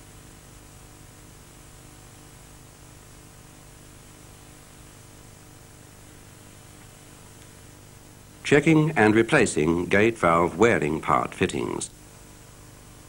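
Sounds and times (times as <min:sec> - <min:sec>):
low electrical hum: 0:00.0 - 0:13.0
tape hiss: 0:00.0 - 0:13.0.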